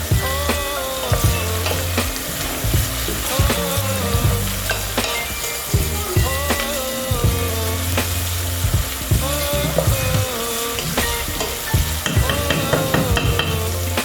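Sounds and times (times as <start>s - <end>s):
onion sizzling in hot oil: 0.0s - 14.0s.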